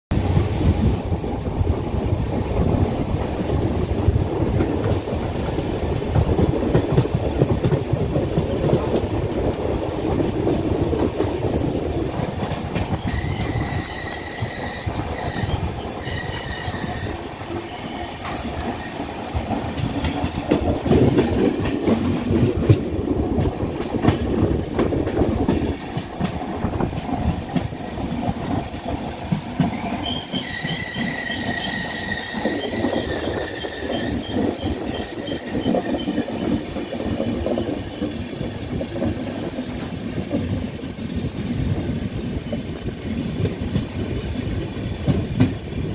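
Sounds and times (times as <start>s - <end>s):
train rumbling: 0.1s - 45.9s.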